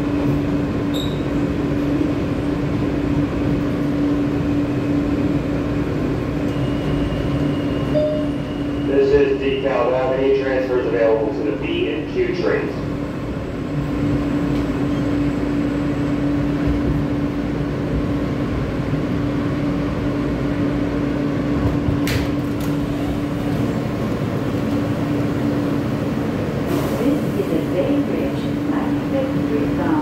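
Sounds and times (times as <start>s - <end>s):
subway car rumble: 0.0s - 30.0s.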